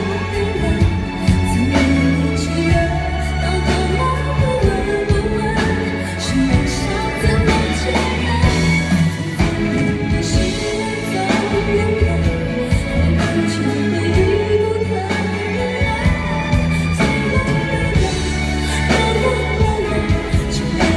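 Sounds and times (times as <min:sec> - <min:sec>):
band with bass and drums: 0:00.0 - 0:20.9
woman singing pop ballad: 0:00.0 - 0:20.9.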